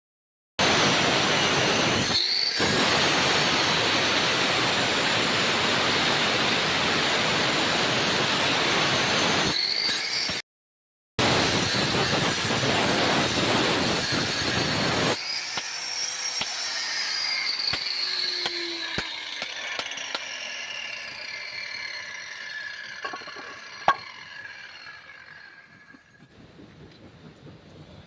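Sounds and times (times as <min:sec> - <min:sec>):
power saw cutting stone: 0:00.6 - 0:10.4, 0:11.2 - 0:26.3
saw blade winding down whine: 0:00.6 - 0:10.4, 0:11.2 - 0:27.1.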